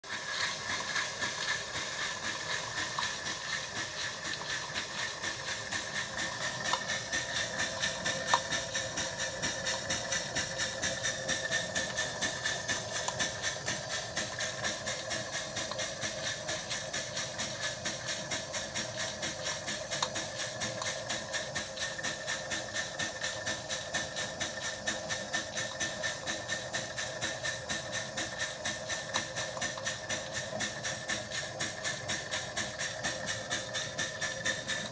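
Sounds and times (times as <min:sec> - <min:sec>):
steady steam hiss: 0:00.0 - 0:34.9
steam engine exhaust bark: 0:00.0 - 0:34.9.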